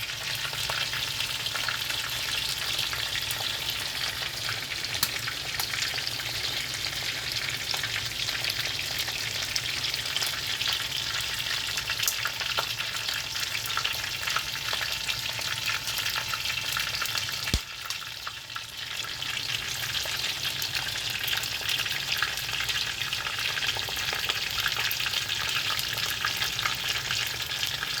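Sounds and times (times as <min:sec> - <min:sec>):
squid sizzling in hot oil: 0:00.0 - 0:28.0.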